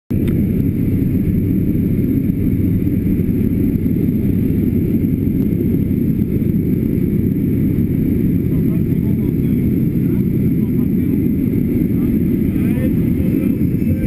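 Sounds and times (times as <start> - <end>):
propeller aircraft engine drone: 0.1 - 14.0.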